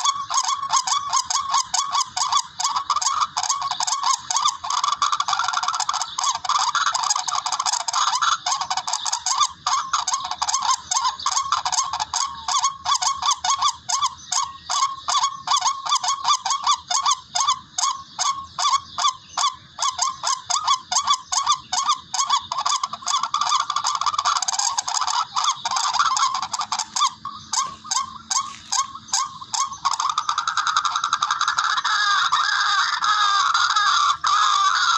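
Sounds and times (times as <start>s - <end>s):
rail bird harsh honking calls: 0.0s - 34.9s.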